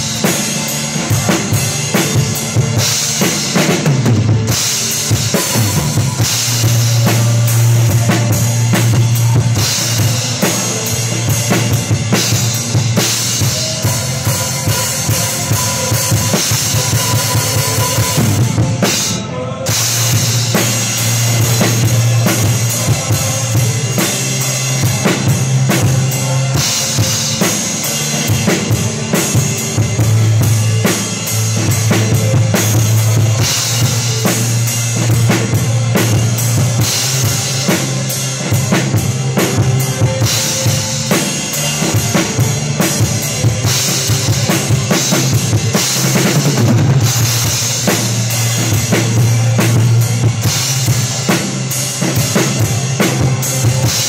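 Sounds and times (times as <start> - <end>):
band playing: 0.0 - 54.0
drum kit groove: 0.0 - 54.0
low bass notes: 0.0 - 54.0.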